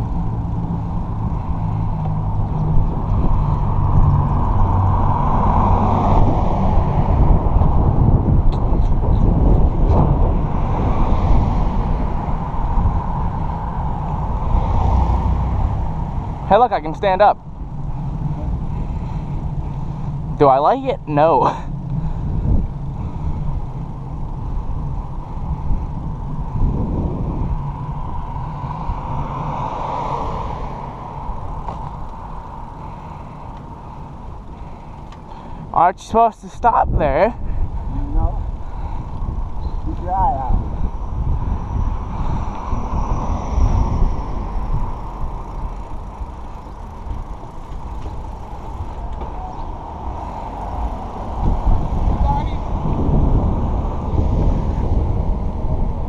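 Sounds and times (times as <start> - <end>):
bicycle rolling rumble: 0.0 - 56.0
road and wind noise: 0.0 - 56.0.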